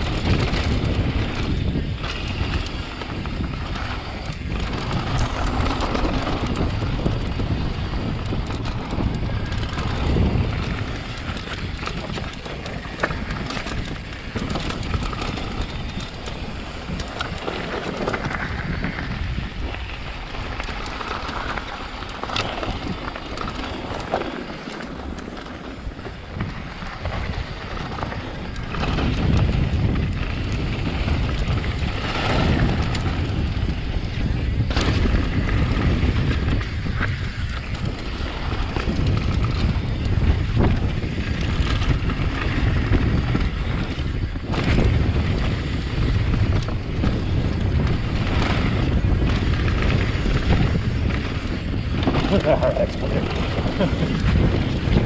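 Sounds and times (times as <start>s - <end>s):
bike knocking and rattling: 0.0s - 55.0s
tyres rolling on dirt trail: 0.0s - 55.0s
wind rushing over camera: 0.0s - 55.0s.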